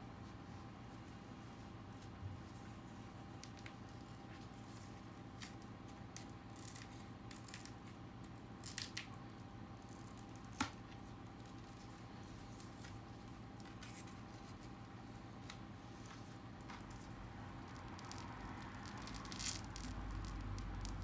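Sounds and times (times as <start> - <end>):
electrical hum: 0.0 - 21.0
faint rustles and small clicks: 0.2 - 21.0.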